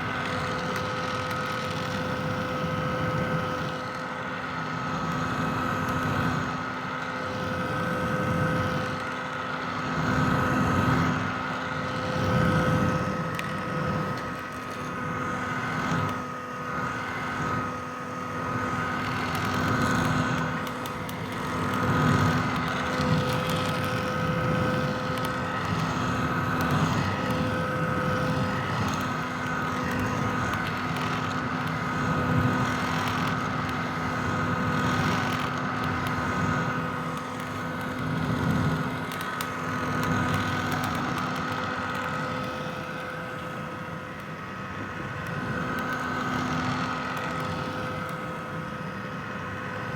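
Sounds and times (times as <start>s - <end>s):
hair dryer running: 0.0s - 49.9s.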